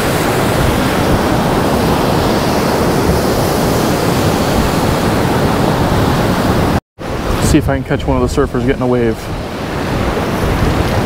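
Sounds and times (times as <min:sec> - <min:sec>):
ocean surf breaking: 0:00.0 - 0:11.0
wind on microphone: 0:00.0 - 0:11.0.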